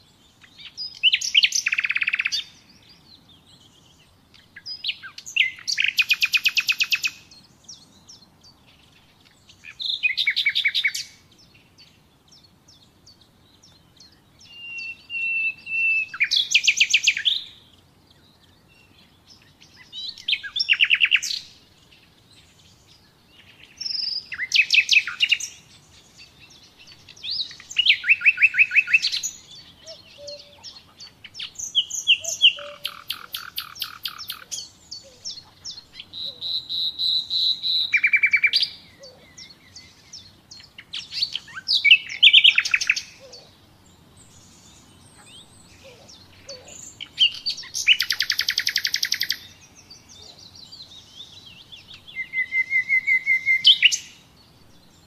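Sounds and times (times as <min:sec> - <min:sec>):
nightingale singing: 0:00.0 - 0:55.0.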